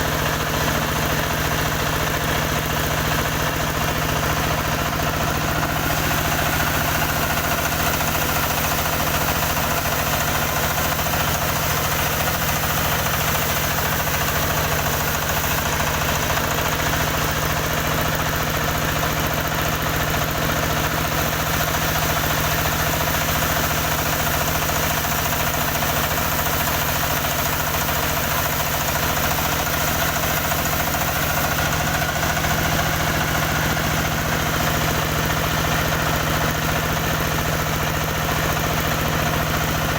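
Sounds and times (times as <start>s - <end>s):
motorised wood saw engine running: 0.0s - 39.9s.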